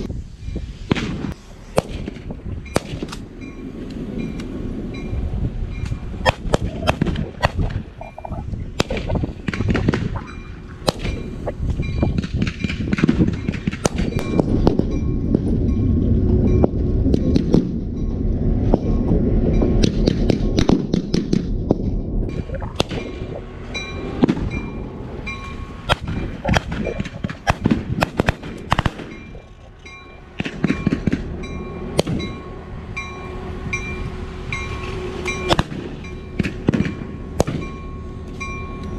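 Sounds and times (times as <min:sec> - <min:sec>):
locomotive rumble: 0:00.0 - 0:38.9.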